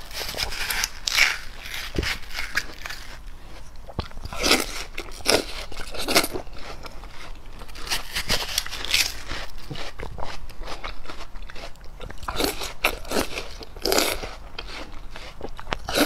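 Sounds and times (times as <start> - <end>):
crisp bites and chewing: 0.0 - 3.2, 3.9 - 16.0.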